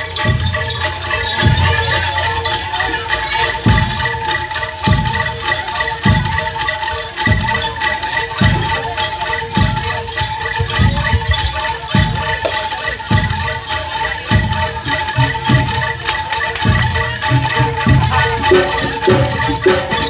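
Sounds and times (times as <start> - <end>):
clattering percussion: 0.0 - 20.0
held high tone: 0.0 - 20.0.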